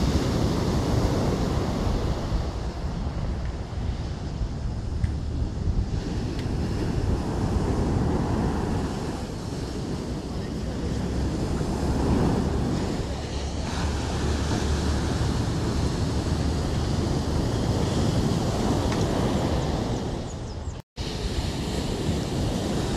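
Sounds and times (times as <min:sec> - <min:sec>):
ocean surf breaking on beach: 0:00.0 - 0:20.3, 0:21.0 - 0:22.9
wind rumbling on microphone: 0:00.0 - 0:22.9.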